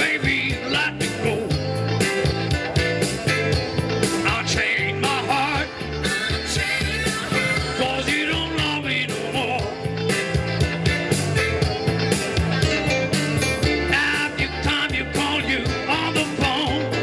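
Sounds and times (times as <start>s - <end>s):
live rock band playing: 0.0s - 17.0s
steady bass and drum beat: 0.0s - 17.0s.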